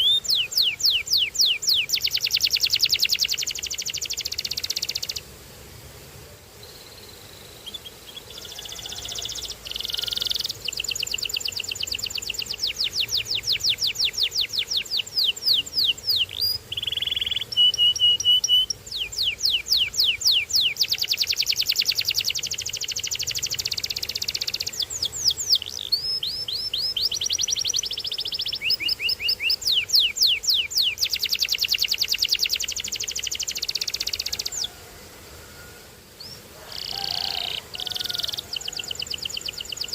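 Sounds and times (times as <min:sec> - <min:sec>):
canary singing trills: 0:00.0 - 0:05.2, 0:06.6 - 0:34.8, 0:36.2 - 0:39.9.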